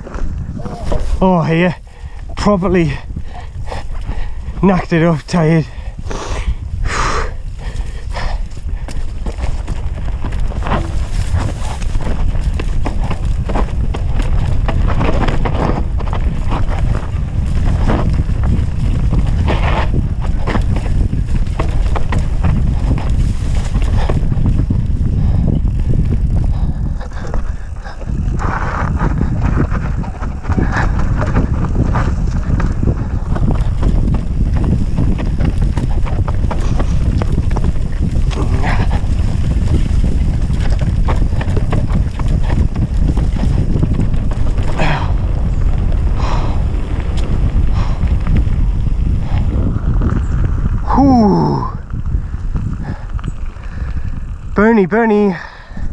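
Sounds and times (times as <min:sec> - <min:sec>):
bike tyres rolling and rattling: 0:00.0 - 0:55.9
wind buffeting microphone: 0:00.0 - 0:55.9.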